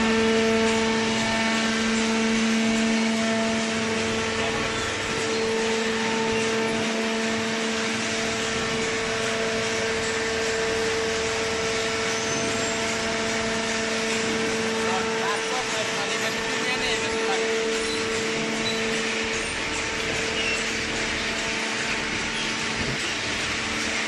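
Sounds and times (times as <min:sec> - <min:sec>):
baler motor and pump whining: 0:00.0 - 0:24.0.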